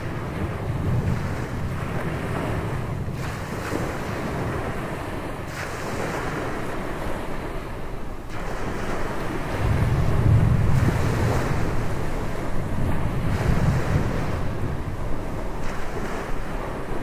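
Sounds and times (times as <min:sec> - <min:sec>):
ocean surf breaking on beach: 0:00.0 - 0:17.0
wind rumbling on microphone: 0:00.0 - 0:17.0.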